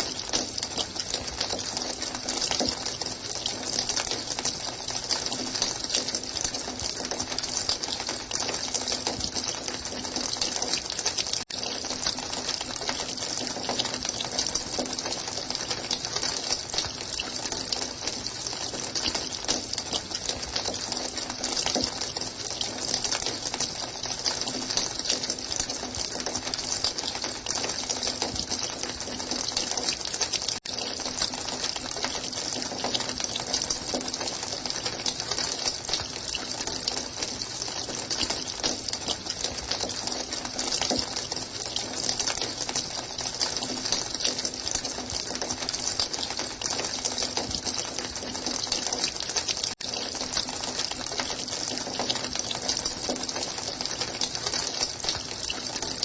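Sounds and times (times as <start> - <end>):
running water gushing: 0.0 - 56.0.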